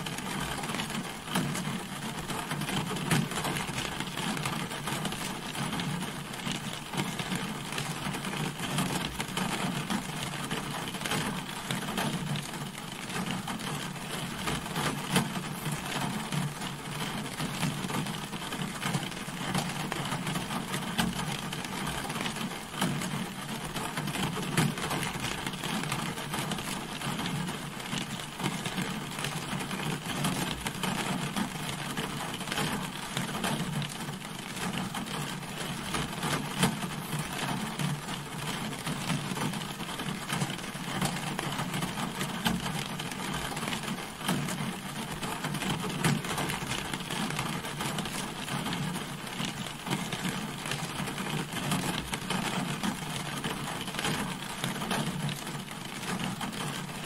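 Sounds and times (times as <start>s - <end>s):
rain pattering on car: 0.0s - 57.0s.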